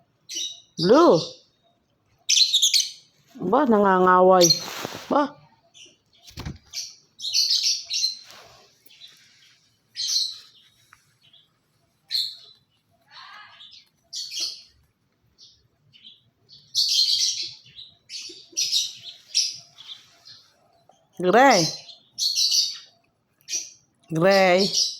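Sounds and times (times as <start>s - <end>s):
birds chirping and screeching: 0.2s - 24.9s.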